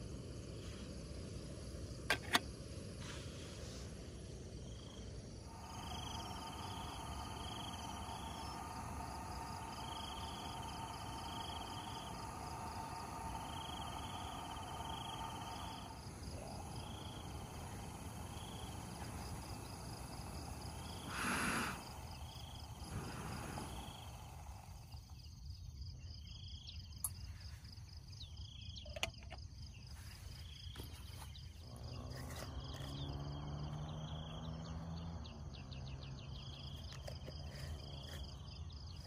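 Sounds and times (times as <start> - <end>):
insects droning and chirping: 0.0 - 39.0.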